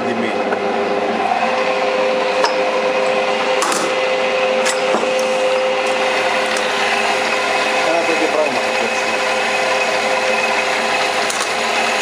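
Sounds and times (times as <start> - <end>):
metal lathe motor whine: 0.3 - 12.0.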